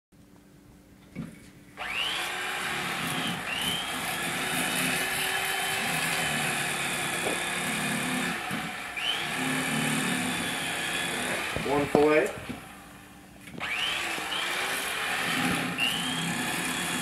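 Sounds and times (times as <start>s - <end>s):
electric knife motor whining: 1.8s - 17.0s.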